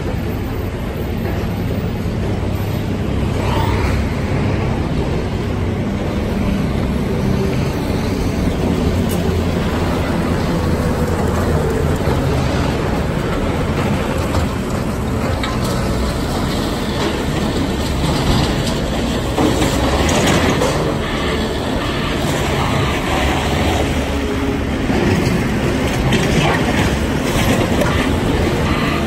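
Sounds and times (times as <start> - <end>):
diesel machinery rumbling: 0.0 - 29.0
dump truck rolling past: 0.0 - 29.0.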